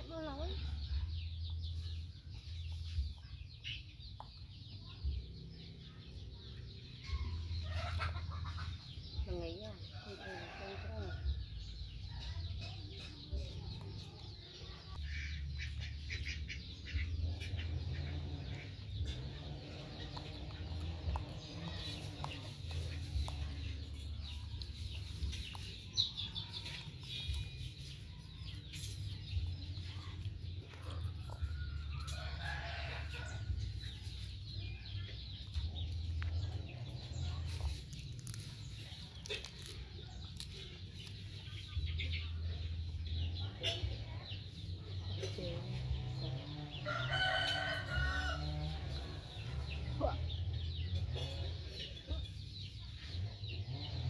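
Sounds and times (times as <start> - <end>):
chickens clucking: 2.4 - 54.0.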